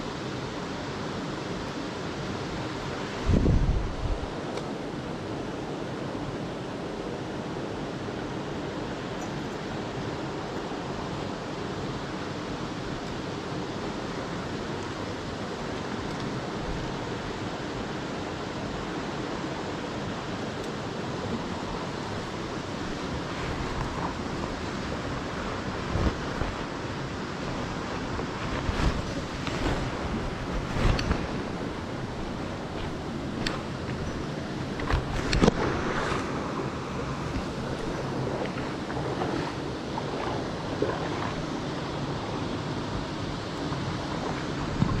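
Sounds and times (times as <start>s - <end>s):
stream water rushing over rocks: 0.0s - 45.0s.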